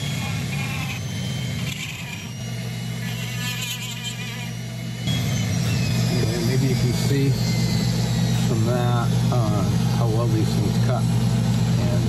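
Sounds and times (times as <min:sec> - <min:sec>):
rotary tool grinding wood: 0:00.0 - 0:12.0.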